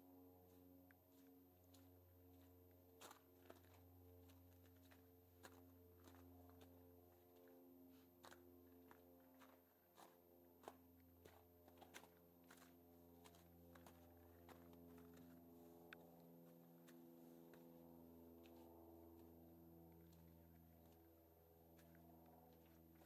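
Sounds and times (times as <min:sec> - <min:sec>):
footsteps crunching on sandy trail: 0:00.4 - 0:23.0.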